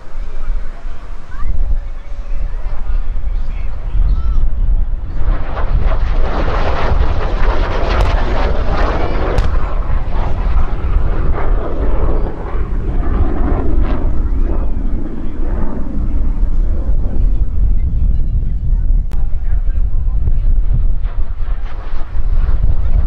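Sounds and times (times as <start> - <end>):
jet fighter passing: 0.0 - 23.0
wind on microphone: 0.0 - 23.0.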